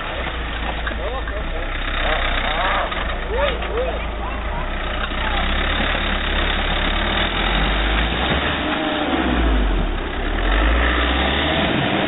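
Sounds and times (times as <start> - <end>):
diesel engine at low revs: 0.0 - 12.0.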